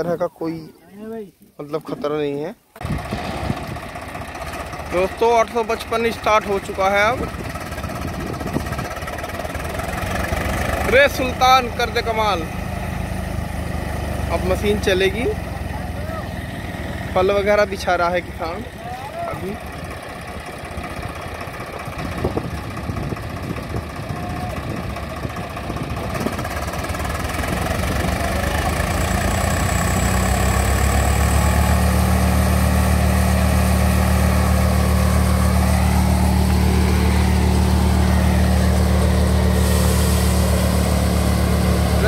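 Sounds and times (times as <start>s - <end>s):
tractor diesel engine driving thresher: 2.8s - 42.0s.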